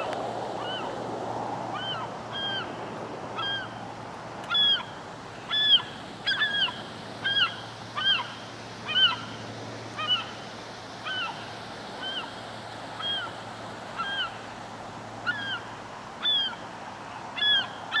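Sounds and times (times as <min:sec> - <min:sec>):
bird calling: 0:00.0 - 0:00.9, 0:01.7 - 0:02.8, 0:03.4 - 0:03.8, 0:04.5 - 0:12.4, 0:13.0 - 0:14.5, 0:15.2 - 0:18.0
steady background hiss: 0:00.0 - 0:18.0.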